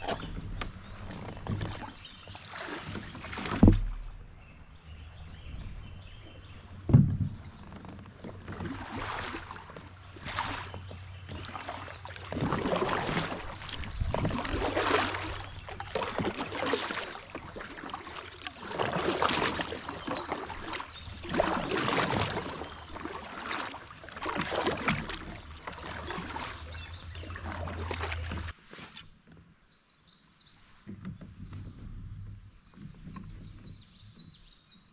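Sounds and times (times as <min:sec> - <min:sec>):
kayak paddle splashing: 0:00.0 - 0:04.5, 0:05.1 - 0:29.3.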